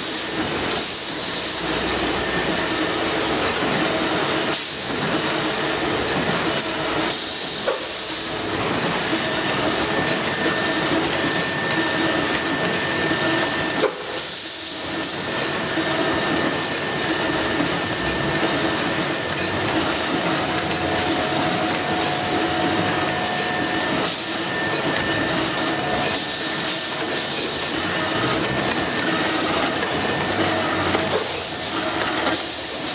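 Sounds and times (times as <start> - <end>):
production line machine hiss: 0.0 - 32.9
light machine clatter: 1.6 - 32.9.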